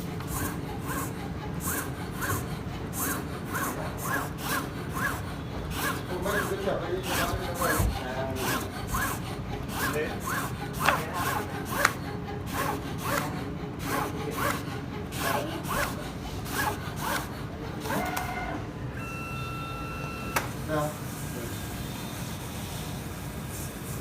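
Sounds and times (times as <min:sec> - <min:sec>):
cutting plotter motors whirring: 0:00.0 - 0:24.0.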